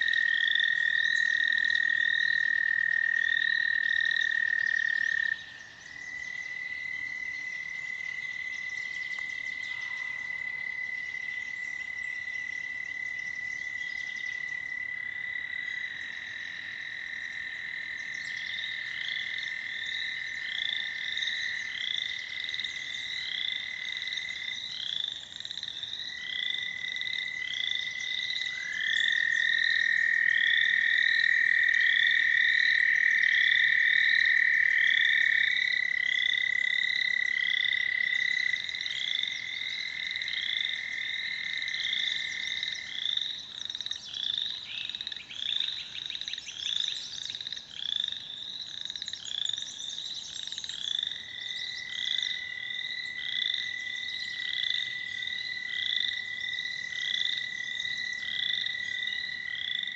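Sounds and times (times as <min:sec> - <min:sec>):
toads trilling: 0:00.0 - 0:59.9.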